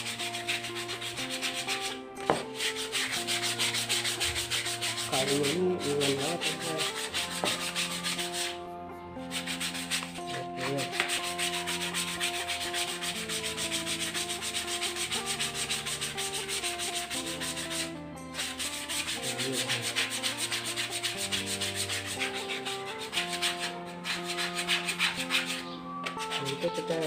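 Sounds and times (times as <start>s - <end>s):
sandpaper rubbing on wood: 0.0s - 8.6s, 9.2s - 27.0s.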